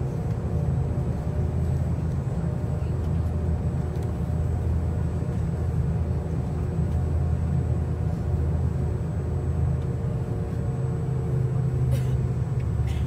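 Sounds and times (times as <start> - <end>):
deep rumble of plane rolling: 0.0 - 13.0
jet engines running: 0.0 - 13.0.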